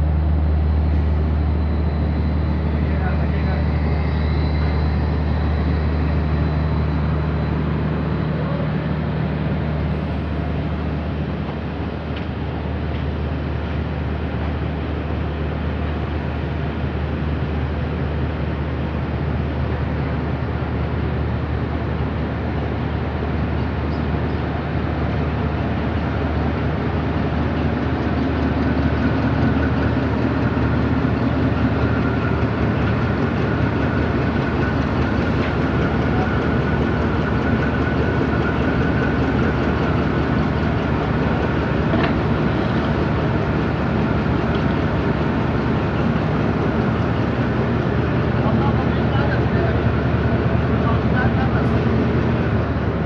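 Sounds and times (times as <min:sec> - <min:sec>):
diesel locomotive engine running: 0:00.0 - 0:53.0.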